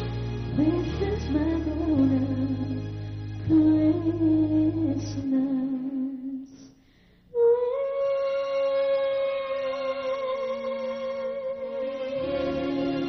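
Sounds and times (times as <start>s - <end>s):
soft musical accompaniment: 0.0s - 6.5s, 7.4s - 13.0s
woman singing with vibrato: 0.0s - 6.7s, 7.3s - 13.0s.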